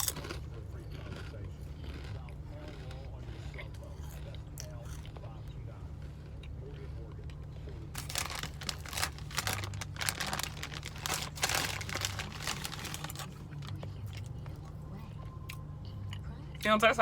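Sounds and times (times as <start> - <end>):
potato chips crunching being chewed: 0.0 - 14.8
low steady hum: 0.0 - 17.0.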